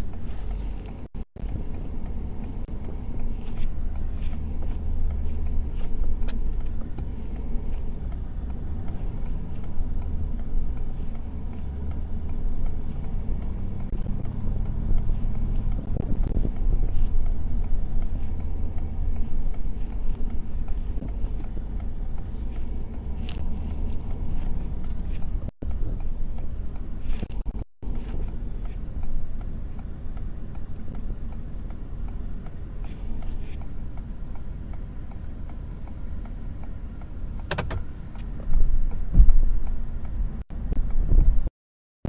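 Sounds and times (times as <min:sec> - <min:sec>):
truck engine and road rumble: 0:00.0 - 0:41.5.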